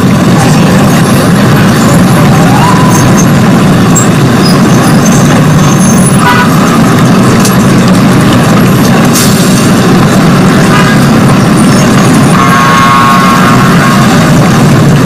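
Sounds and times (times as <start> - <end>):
loud distorted rumble: 0.0 - 15.0.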